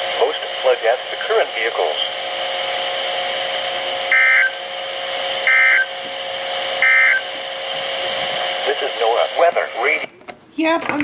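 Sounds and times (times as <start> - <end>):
radio receiver hum and hiss: 0.0 - 10.1.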